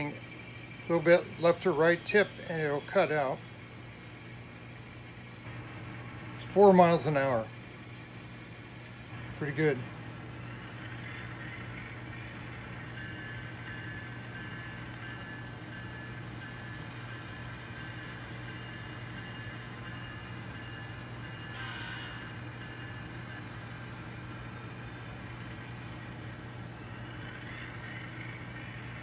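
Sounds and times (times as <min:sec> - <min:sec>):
model locomotive motor hum: 0:00.0 - 0:29.0.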